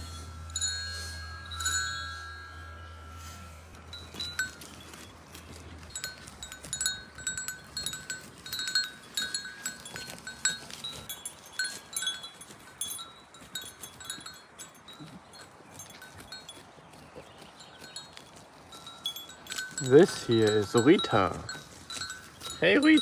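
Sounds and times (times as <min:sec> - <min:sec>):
goat bells clinking: 0:00.0 - 0:23.0.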